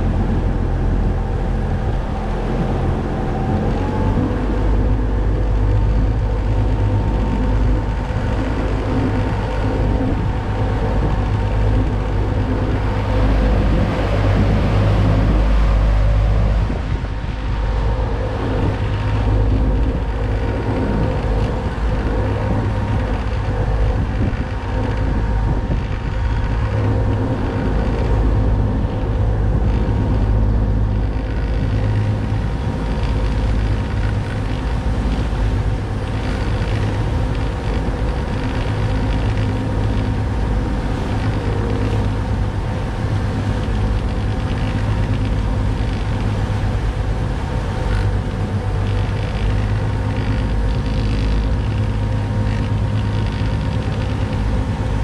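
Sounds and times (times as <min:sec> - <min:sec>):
boat engine droning: 0:00.0 - 0:55.0
wind buffeting microphone: 0:00.0 - 0:55.0.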